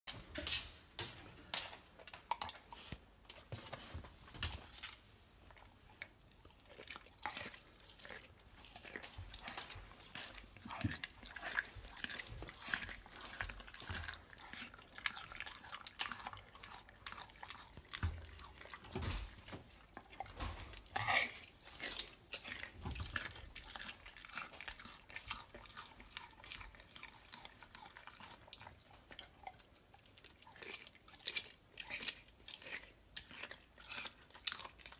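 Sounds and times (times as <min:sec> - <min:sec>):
dog licking and chewing meat: 0:01.6 - 0:34.9.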